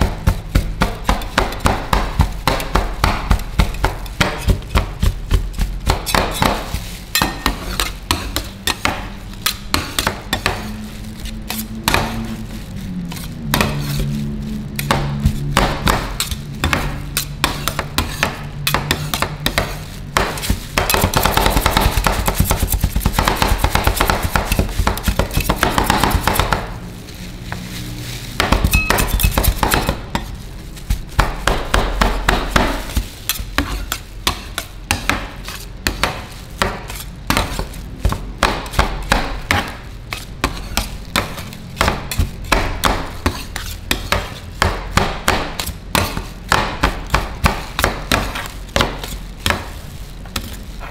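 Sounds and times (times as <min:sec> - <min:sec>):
steel spatulas chopping on metal plate: 0:00.0 - 0:10.8, 0:14.7 - 0:26.7, 0:28.4 - 0:30.3, 0:31.2 - 0:49.7.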